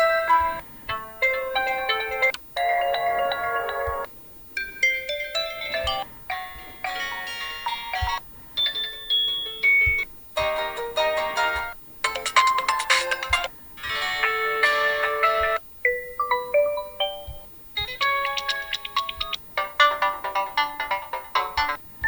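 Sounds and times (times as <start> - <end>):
phone ringtone snippets: 0.0 - 21.8.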